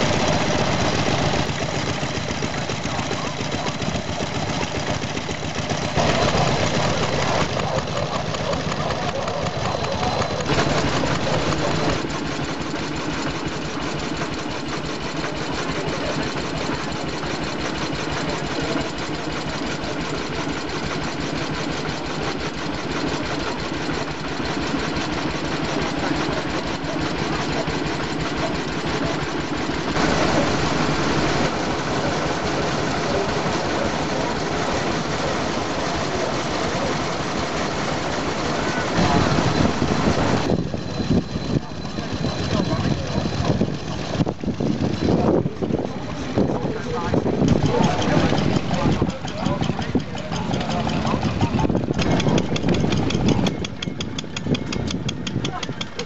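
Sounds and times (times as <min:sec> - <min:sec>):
stationary engines running: 0:00.0 - 0:56.0.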